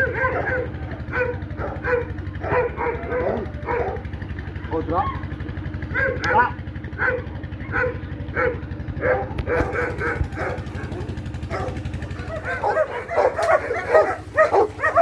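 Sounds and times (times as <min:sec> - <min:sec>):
dog barking: 0:00.0 - 0:04.1, 0:05.9 - 0:15.0.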